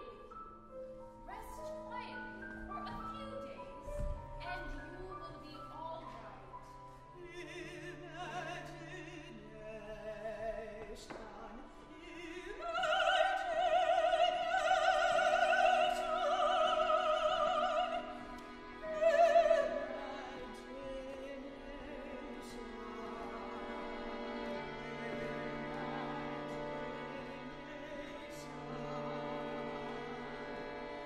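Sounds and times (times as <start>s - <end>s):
soft ensemble accompaniment: 0.0s - 31.0s
operatic singing with vibrato: 1.3s - 31.0s.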